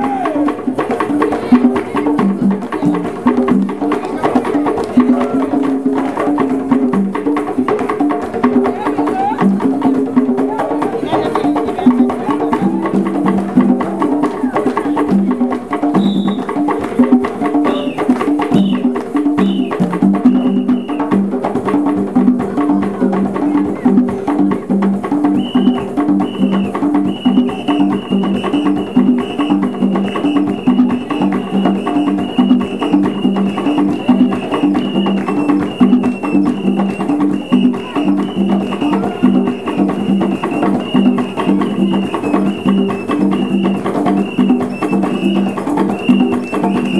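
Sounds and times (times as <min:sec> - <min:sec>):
hand drums playing fast rhythm: 0:00.0 - 0:46.9.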